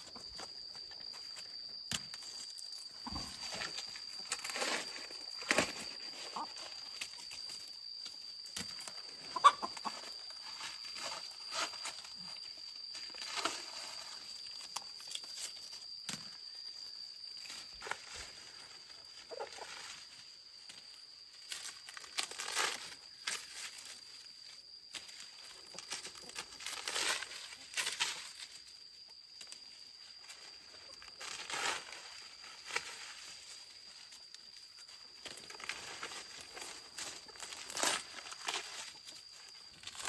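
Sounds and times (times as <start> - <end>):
high insect drone: 0.0 - 40.0
dry corn leaves rustling: 2.1 - 15.8, 17.3 - 40.0.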